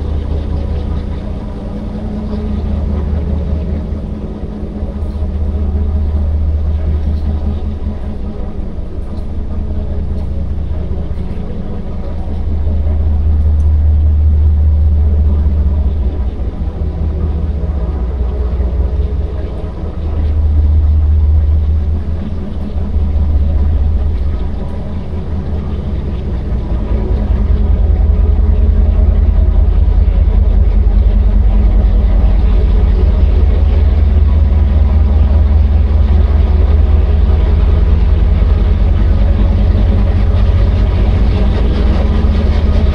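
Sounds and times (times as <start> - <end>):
low engine rumble: 0.0 - 42.9.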